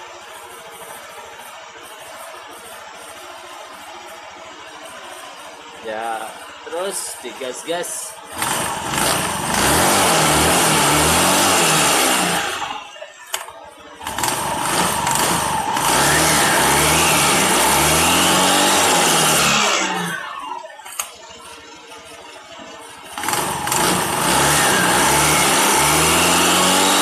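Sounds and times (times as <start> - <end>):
scooter engine revving: 0.0 - 27.0.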